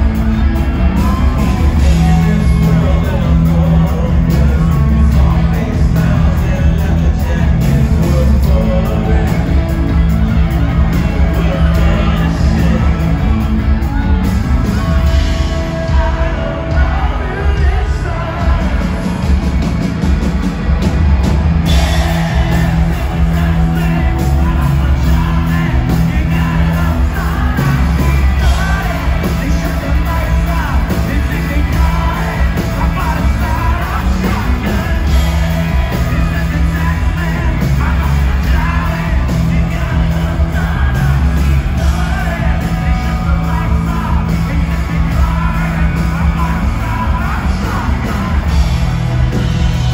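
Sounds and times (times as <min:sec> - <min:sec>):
rock band playing live: 0:00.0 - 0:49.9
singer singing and shouting: 0:00.0 - 0:49.9.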